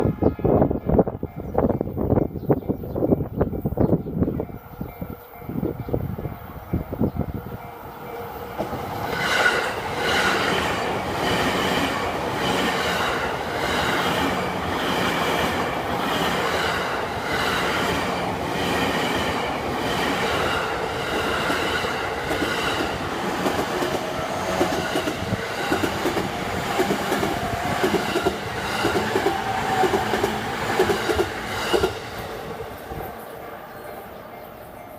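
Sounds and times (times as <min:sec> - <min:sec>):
electric train passing: 0:00.0 - 0:34.9.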